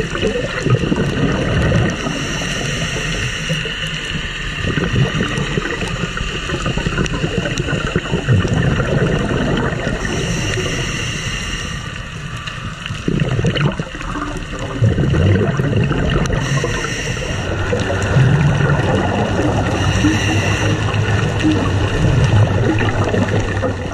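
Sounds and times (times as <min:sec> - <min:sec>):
exhaled bubbles gurgling: 0:00.0 - 0:23.9
underwater rumble: 0:00.0 - 0:23.9.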